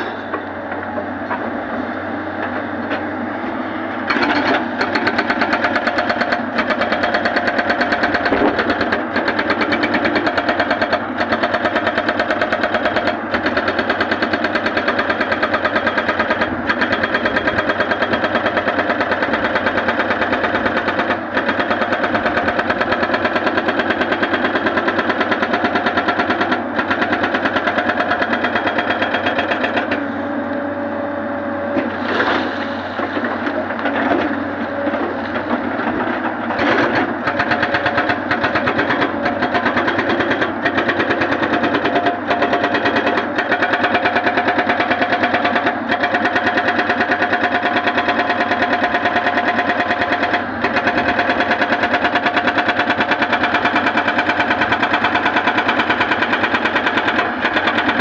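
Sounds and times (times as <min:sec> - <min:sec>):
excavator engine running: 0:00.0 - 0:58.0
hydraulic breaker hammering rock: 0:04.0 - 0:30.0, 0:33.2 - 0:58.0.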